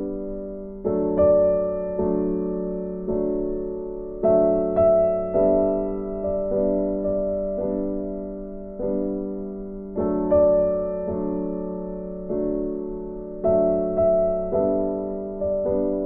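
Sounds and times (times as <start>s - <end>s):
slow soft piano chords: 0.0s - 16.0s.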